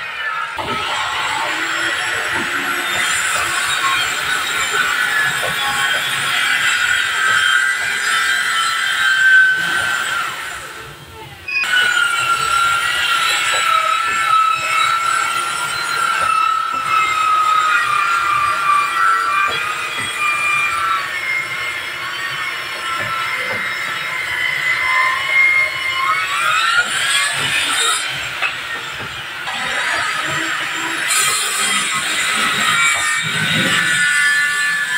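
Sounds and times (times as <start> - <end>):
circular saw cutting wood: 0.0 - 34.9.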